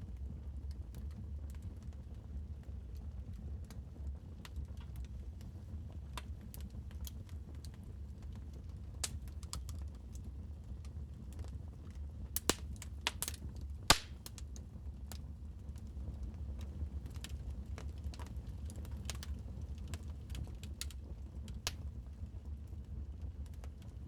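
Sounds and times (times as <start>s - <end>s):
wood fire crackling: 2.8s - 24.0s.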